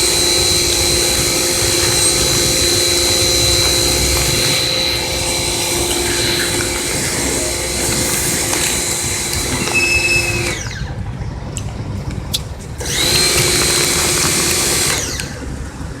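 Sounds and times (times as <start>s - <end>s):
small motor whining: 0.0s - 11.0s, 12.8s - 15.5s.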